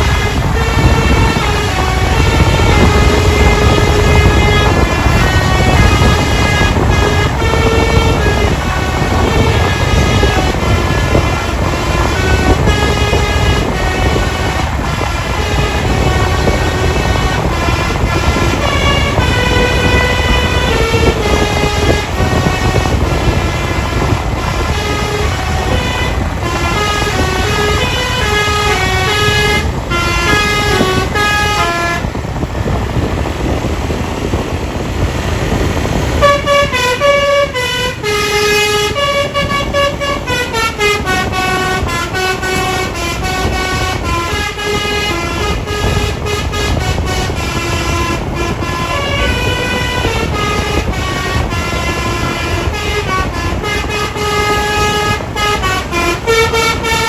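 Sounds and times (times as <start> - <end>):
bus horn playing melody: 0.0 - 57.0.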